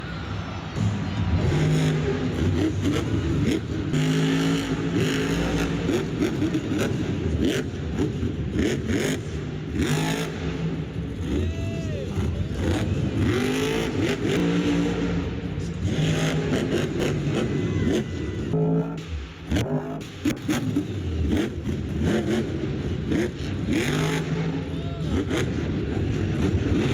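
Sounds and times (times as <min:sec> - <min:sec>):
truck engine revving hard: 0:00.5 - 0:26.9.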